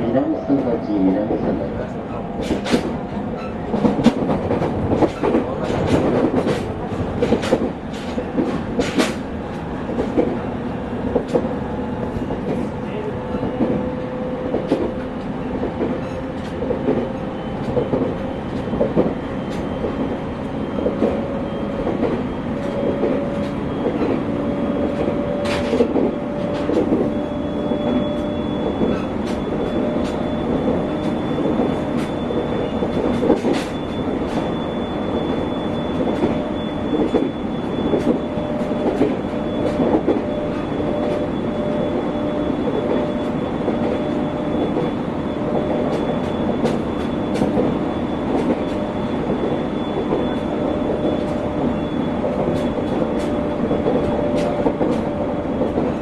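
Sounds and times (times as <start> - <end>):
train rumble: 0.0 - 56.0
train motor whine: 6.4 - 56.0.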